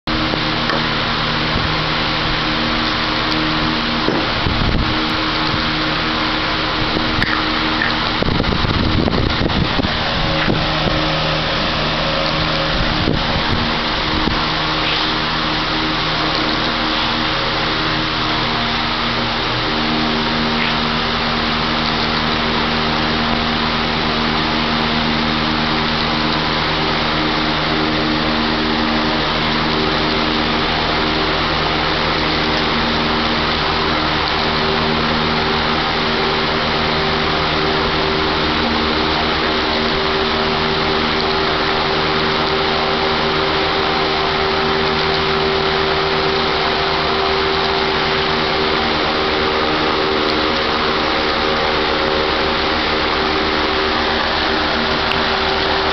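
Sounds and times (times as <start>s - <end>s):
machine humming with held tones: 0.0s - 55.9s.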